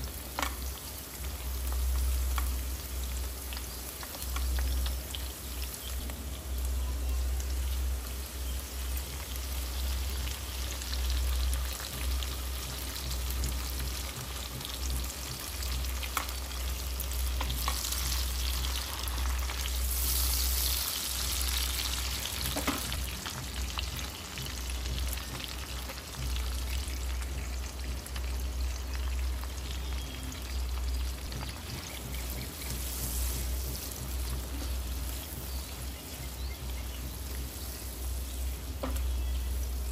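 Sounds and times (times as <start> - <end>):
food sizzling in hot oil: 0.0 - 39.9
steady low hum: 0.0 - 39.9.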